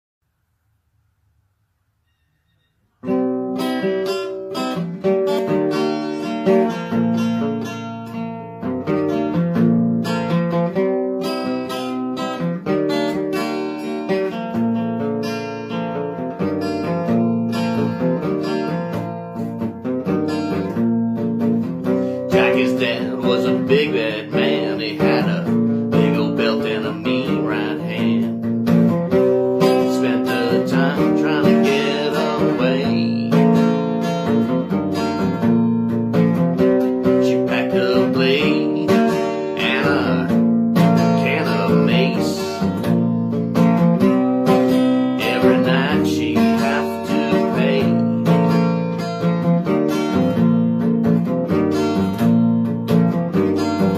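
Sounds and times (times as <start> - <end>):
acoustic guitar strumming: 0.8 - 53.9.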